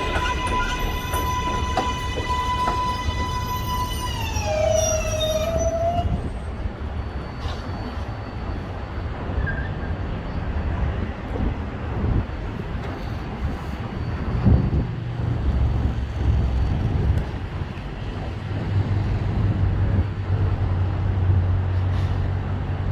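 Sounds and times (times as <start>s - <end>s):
train rumble on track: 0.0s - 22.9s.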